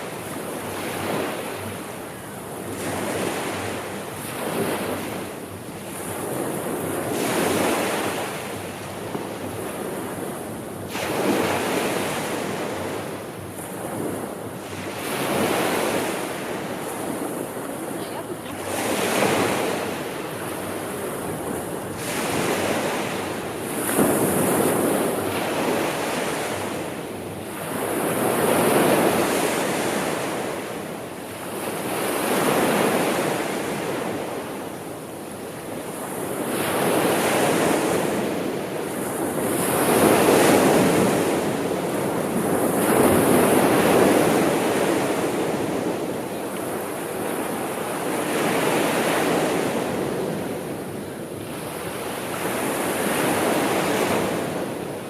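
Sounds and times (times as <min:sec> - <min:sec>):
sea waves breaking ashore: 0:00.0 - 0:55.0.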